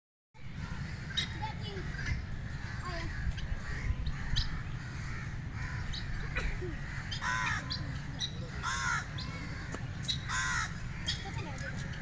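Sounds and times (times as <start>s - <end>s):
birds calling: 0.4s - 12.0s
steady low rumble: 0.4s - 12.0s.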